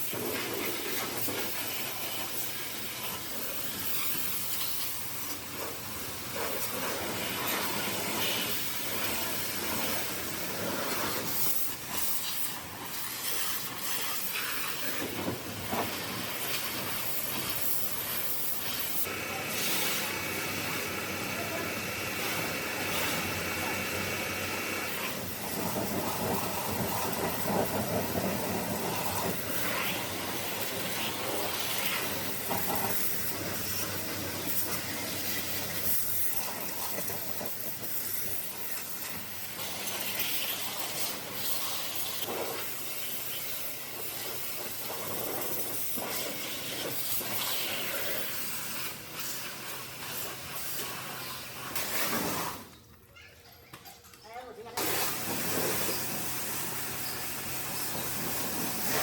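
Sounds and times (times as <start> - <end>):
pressure washer spraying water: 0.0 - 52.8, 54.7 - 59.0.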